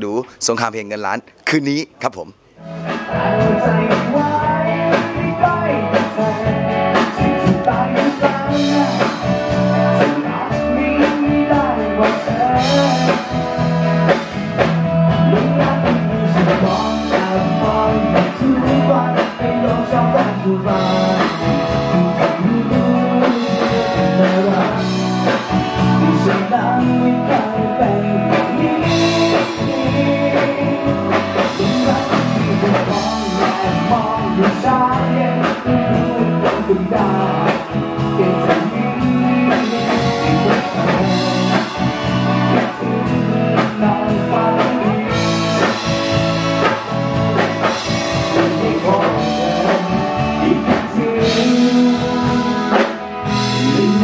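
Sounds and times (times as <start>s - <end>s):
electric guitar: 2.5s - 54.0s
drum kit: 2.6s - 54.0s
man singing into a microphone: 2.9s - 46.7s, 47.3s - 54.0s.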